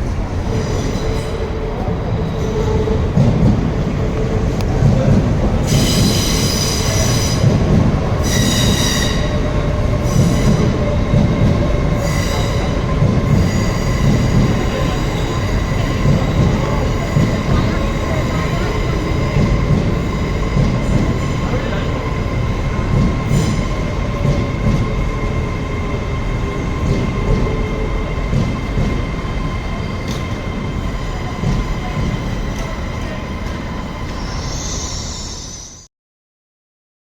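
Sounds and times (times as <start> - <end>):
high train whine: 0.0 - 35.9
train rumbling: 0.0 - 35.9.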